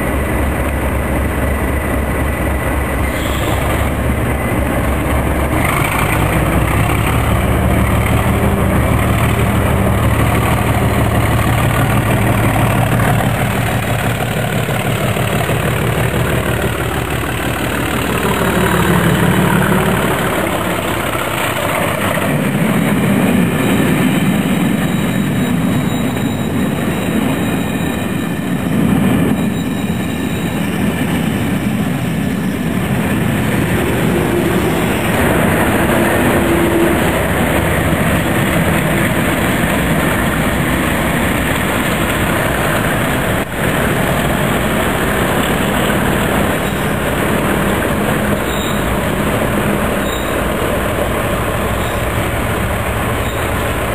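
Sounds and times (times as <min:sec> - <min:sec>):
diesel locomotive engine: 0:00.0 - 0:53.9
train wheels rumbling on rails: 0:00.0 - 0:53.9.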